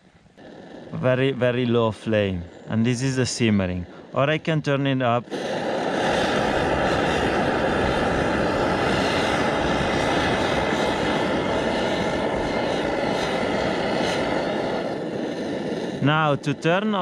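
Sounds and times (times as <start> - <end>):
stove burner hissing: 0.0 - 17.0.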